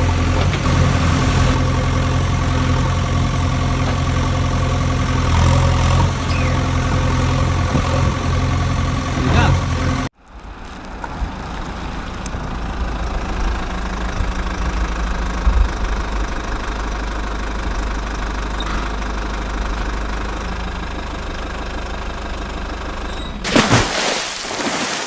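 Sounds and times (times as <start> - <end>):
heavy diesel engine running: 0.0 - 10.1, 11.0 - 23.5.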